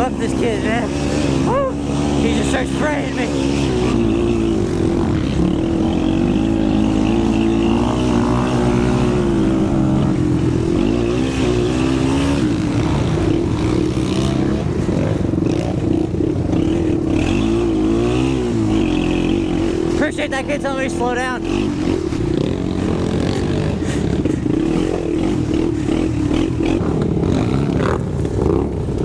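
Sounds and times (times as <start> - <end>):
quad engine revving: 0.0 - 29.0.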